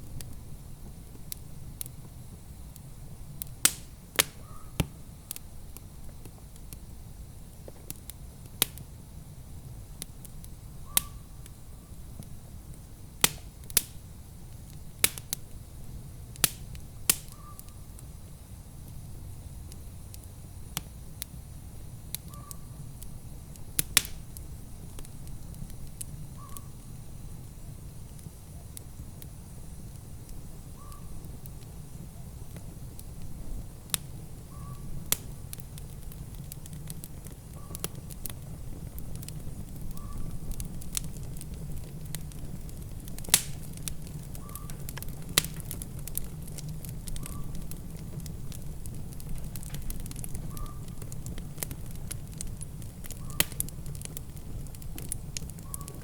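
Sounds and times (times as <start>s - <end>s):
sharp pops of fire: 0.0s - 56.0s
wood fire crackling: 0.0s - 56.0s.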